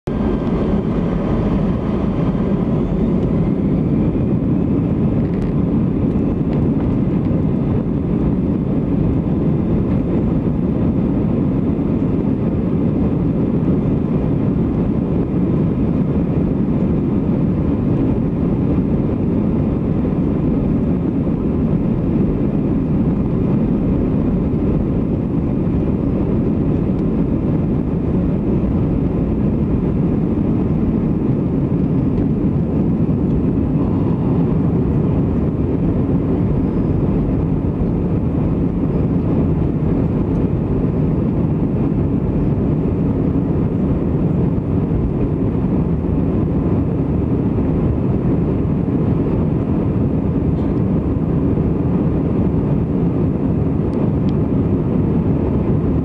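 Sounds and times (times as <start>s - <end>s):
faint high engine whine: 0.1s - 56.0s
jet engines roaring: 0.1s - 56.0s.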